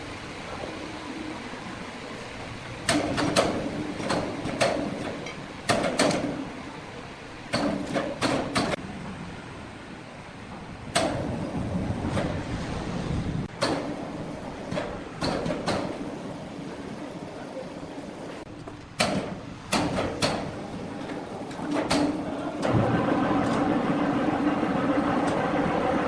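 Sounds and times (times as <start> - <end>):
steady machinery hum: 0.0 - 26.0.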